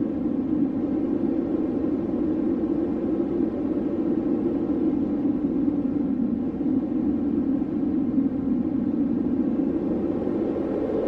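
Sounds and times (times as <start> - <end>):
strong storm wind blowing: 0.0 - 11.0.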